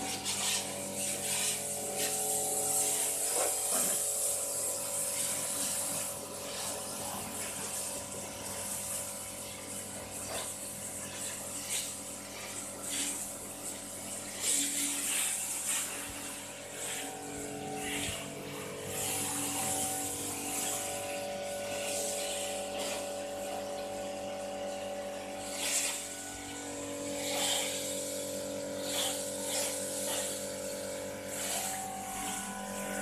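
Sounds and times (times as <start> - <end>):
water spatters: 0.0 - 28.2
high-pressure water spray hissing: 0.0 - 33.0
pump motor humming: 0.0 - 33.0.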